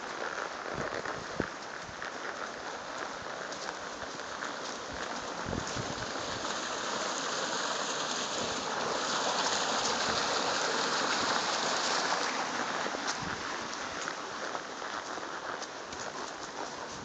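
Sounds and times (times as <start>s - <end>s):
water gushing: 2.3s - 17.0s.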